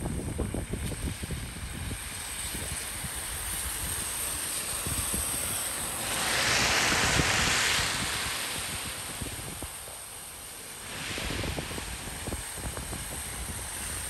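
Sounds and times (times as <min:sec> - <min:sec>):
wind buffeting microphone: 0:00.0 - 0:10.2, 0:10.8 - 0:14.0
road and wind noise: 0:00.0 - 0:14.0
rushing hiss: 0:01.8 - 0:14.0.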